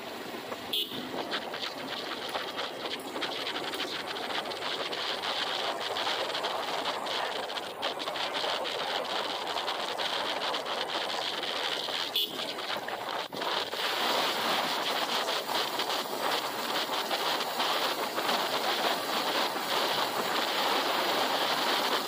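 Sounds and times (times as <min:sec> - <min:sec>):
motorbike road noise: 0:00.0 - 0:22.0
wind on microphone: 0:00.0 - 0:22.0.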